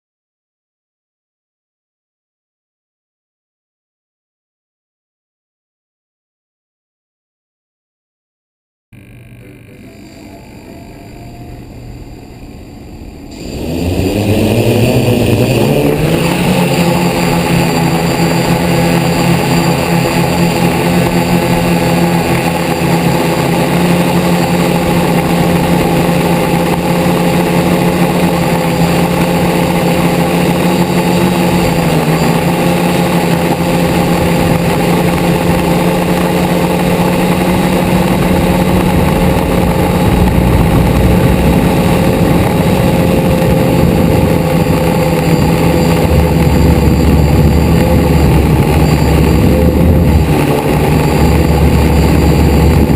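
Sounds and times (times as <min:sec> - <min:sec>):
drone propellers humming: 0:09.0 - 0:52.9.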